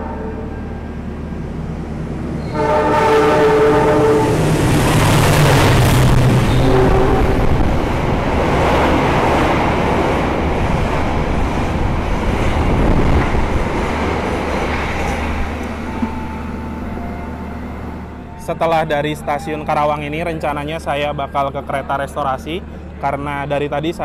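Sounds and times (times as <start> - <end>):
train coaches passing at speed: 0.0 - 23.5.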